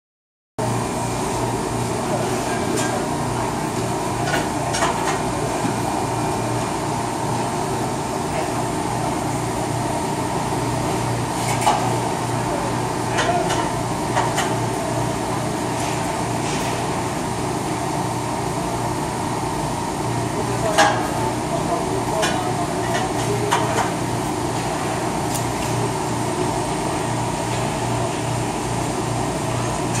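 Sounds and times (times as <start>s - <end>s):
ventilation fan hum: 0.6s - 30.0s.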